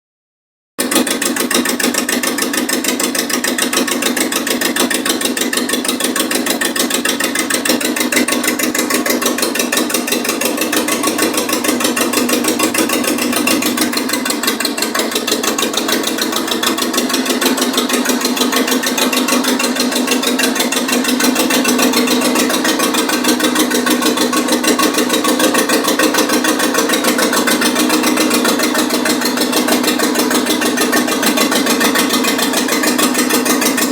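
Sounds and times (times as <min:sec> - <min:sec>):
van engine idling: 0:00.8 - 0:33.9.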